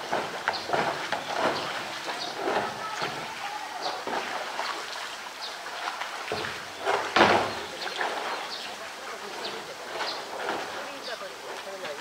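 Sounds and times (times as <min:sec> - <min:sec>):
distant visitor chatter: 0:00.0 - 0:12.0
trickling water: 0:00.0 - 0:12.0.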